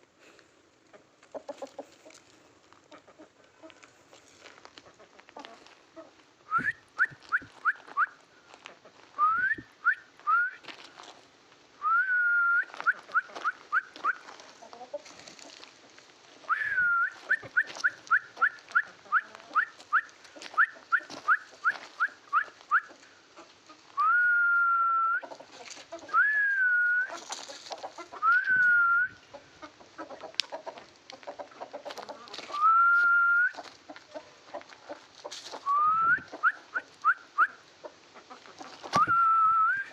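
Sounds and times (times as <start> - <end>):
chickens peeping: 0.8 - 11.1, 12.6 - 24.3, 25.0 - 39.9.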